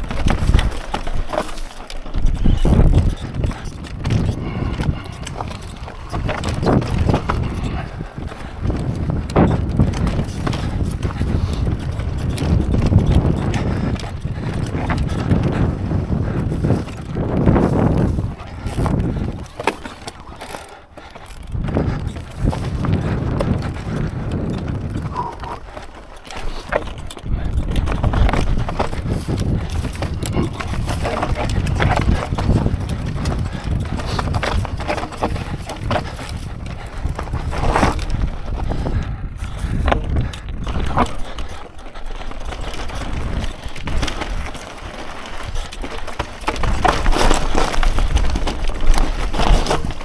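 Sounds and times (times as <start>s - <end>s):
bike knocking and rattling: 0.0s - 50.0s
tyres rumbling over rock: 4.0s - 50.0s.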